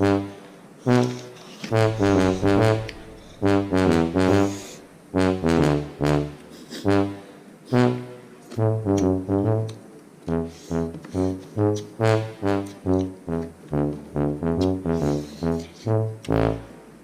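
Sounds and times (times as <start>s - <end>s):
brass melody: 0.0s - 17.0s.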